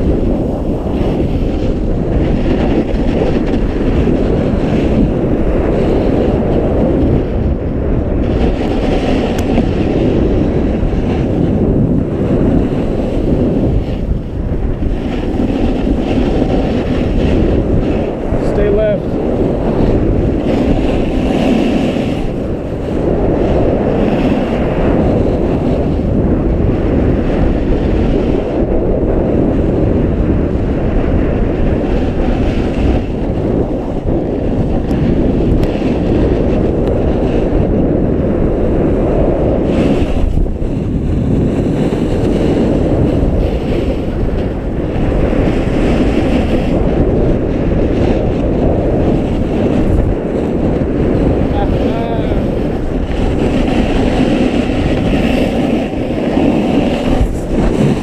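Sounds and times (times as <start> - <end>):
snowboard sliding over snow: 0.0 - 58.0
wind buffeting microphone: 0.0 - 58.0.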